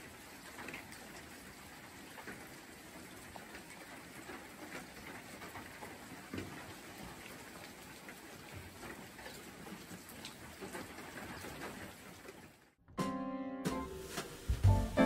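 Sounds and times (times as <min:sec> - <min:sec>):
faint steady rain: 0:00.0 - 0:12.8, 0:13.7 - 0:15.0.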